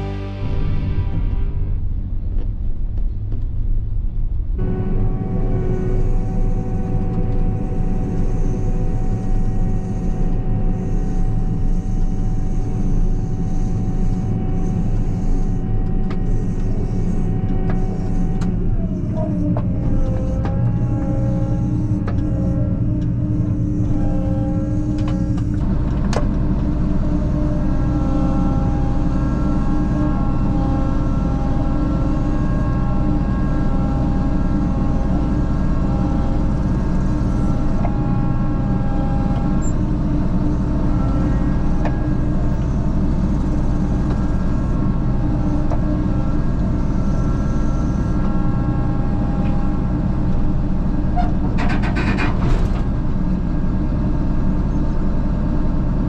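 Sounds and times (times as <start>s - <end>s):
vehicle engine running steadily: 0.0s - 56.0s.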